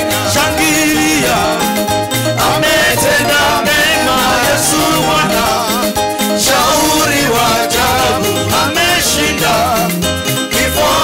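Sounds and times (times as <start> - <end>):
gospel singing with band: 0.0 - 11.0.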